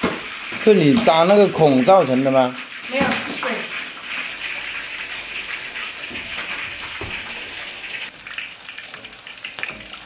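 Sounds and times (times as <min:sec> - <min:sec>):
pork deep-frying in oil: 0:00.0 - 0:10.0.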